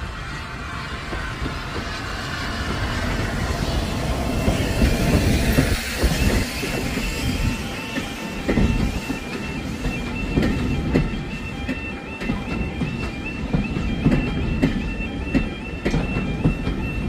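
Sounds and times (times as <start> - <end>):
steam locomotive passing: 0.0 - 17.0
train wheels clattering over rail joints: 0.3 - 17.0.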